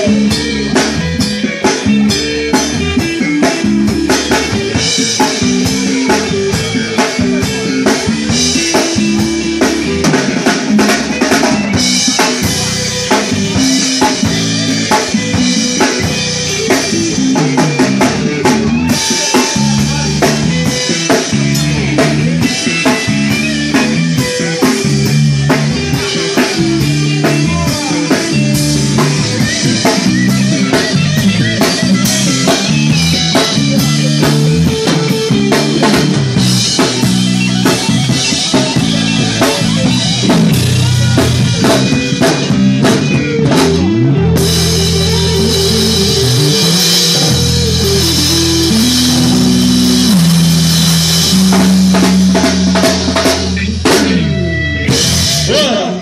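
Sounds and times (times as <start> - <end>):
drum kit playing: 0.0 - 56.0
electric guitar: 0.0 - 56.0.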